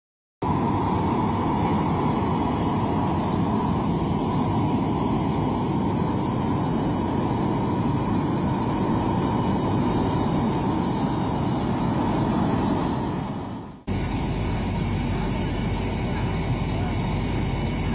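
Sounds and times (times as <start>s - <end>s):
heavy machinery engine running: 0.4s - 17.9s.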